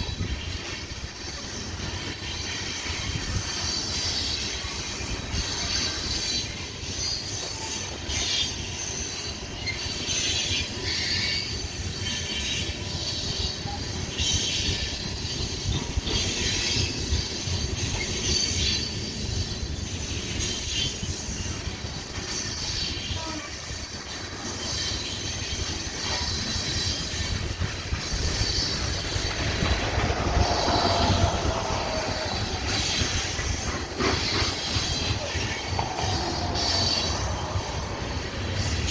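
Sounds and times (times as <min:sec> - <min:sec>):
train cars rumbling on rails: 0:00.0 - 0:38.9
wheel squeal: 0:00.0 - 0:38.9.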